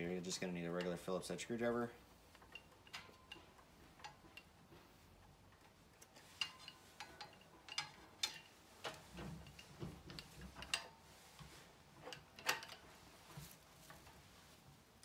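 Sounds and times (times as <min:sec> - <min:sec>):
faint metallic clicks and taps: 0:00.2 - 0:14.7.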